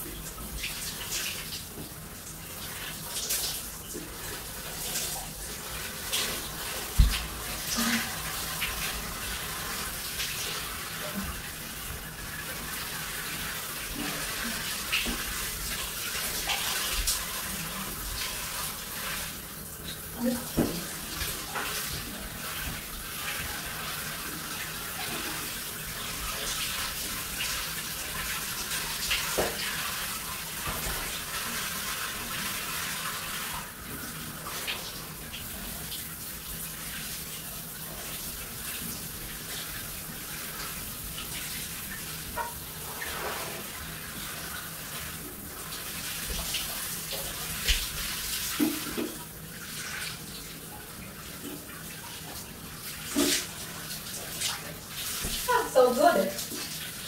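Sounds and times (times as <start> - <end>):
shower water splashing on tiles: 0.0 - 57.0.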